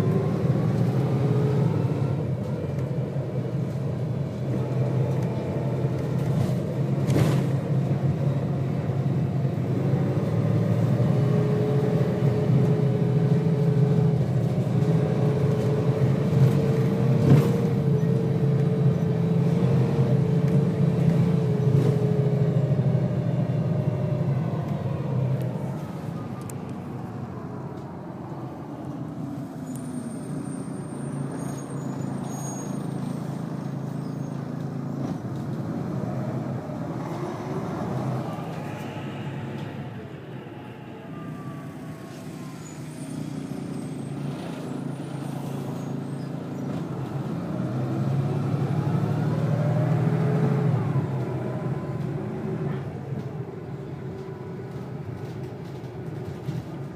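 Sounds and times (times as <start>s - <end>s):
bus engine droning under load: 0.0s - 56.9s.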